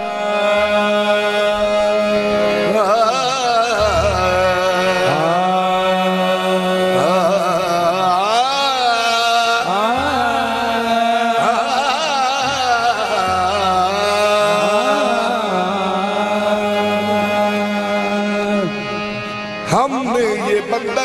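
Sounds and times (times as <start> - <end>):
harmonium held notes: 0.0 - 21.0
person singing melismatic vocals: 0.1 - 17.3.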